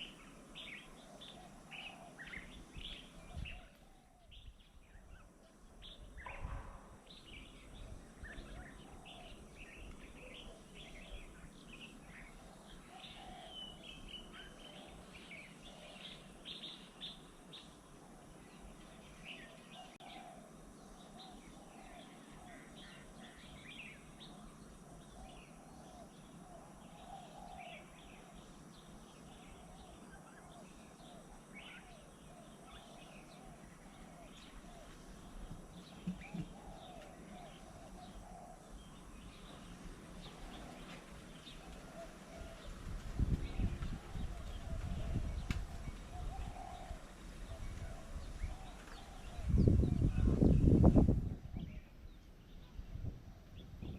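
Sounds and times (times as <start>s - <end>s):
faint outdoor hiss: 0.0s - 53.9s
small birds chirping: 0.0s - 53.9s.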